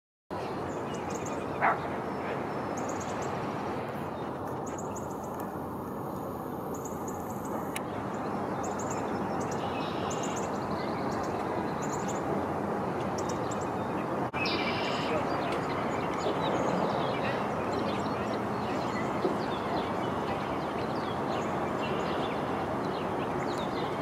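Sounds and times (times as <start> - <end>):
outdoor background noise: 0.3 - 24.0.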